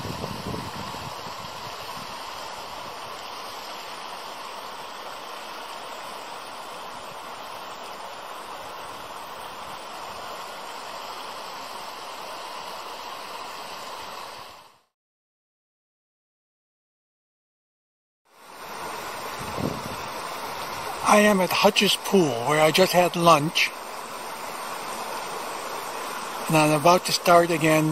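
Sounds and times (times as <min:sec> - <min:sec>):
creek water flowing over rocks: 0:00.0 - 0:14.8, 0:18.3 - 0:27.9.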